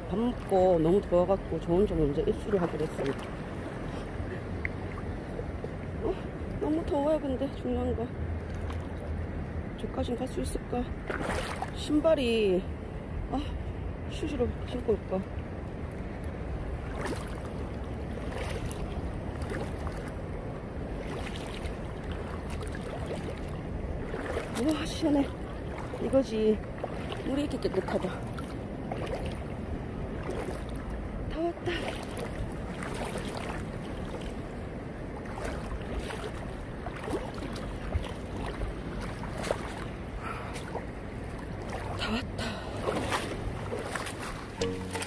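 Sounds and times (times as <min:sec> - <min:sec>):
wind rumble on microphone: 0:00.0 - 0:44.6
water swishing and splashing: 0:00.0 - 0:45.0.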